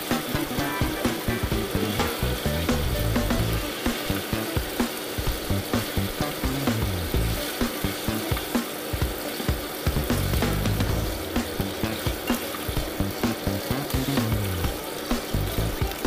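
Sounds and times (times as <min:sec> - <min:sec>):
fish sizzling in oil: 0:00.0 - 0:16.0.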